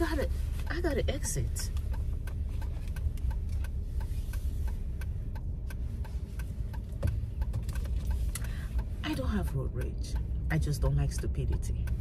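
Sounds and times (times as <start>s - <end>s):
low car rumble: 0.0s - 12.0s
turn signal clicking: 0.0s - 12.0s.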